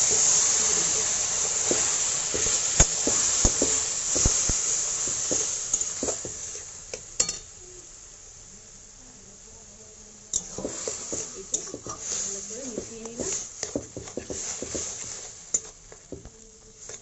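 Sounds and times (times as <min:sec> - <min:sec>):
leaves sizzling in hot oil: 0:00.0 - 0:17.0.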